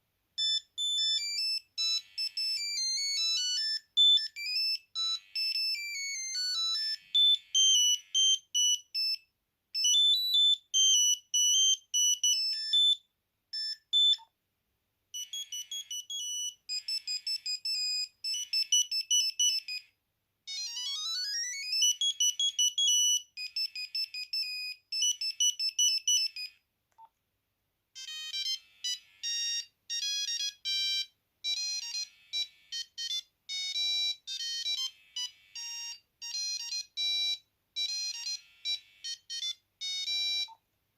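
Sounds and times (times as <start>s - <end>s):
mobile phone monophonic ringtones: 0.4s - 9.2s, 9.8s - 14.3s, 15.1s - 19.9s, 20.5s - 26.6s, 28.0s - 40.6s.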